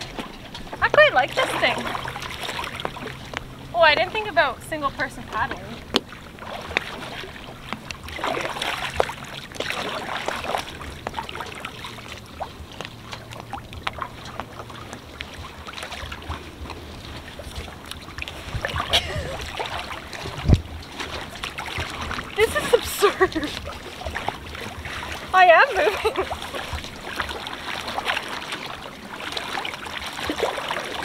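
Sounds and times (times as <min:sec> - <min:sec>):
paddle splashing in water: 0:00.0 - 0:31.0.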